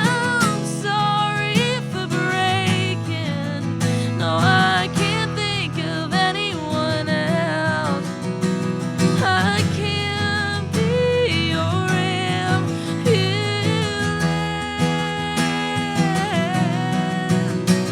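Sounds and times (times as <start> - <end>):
strummed acoustic guitar: 0.0 - 17.9.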